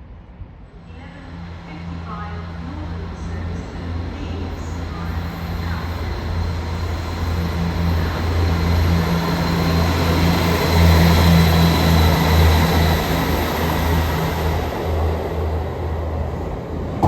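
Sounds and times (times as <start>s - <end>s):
rail noise: 0.0s - 17.0s
train engine humming: 0.1s - 17.0s.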